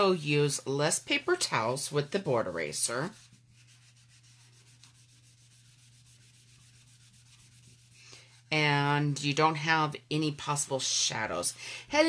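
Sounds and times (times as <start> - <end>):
eraser scrubbing a chalkboard: 0.0 - 11.4.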